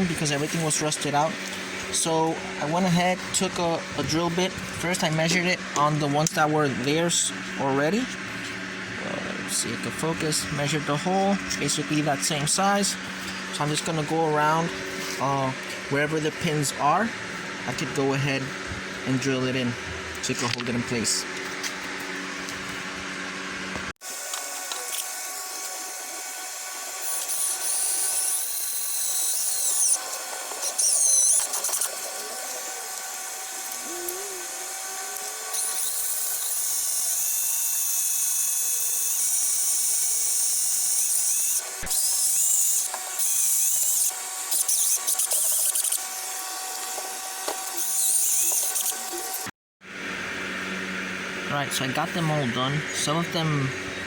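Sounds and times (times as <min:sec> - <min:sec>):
electric drill boring holes: 0:00.0 - 0:20.6, 0:24.0 - 0:49.5.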